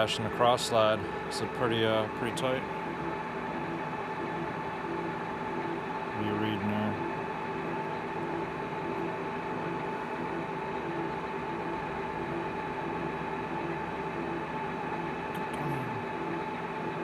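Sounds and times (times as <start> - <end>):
lathe running with whine: 0.0 - 17.0.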